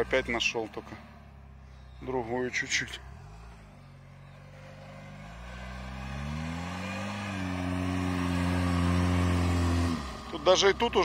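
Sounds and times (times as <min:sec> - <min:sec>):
car engine revving in sand: 0:00.0 - 0:11.0.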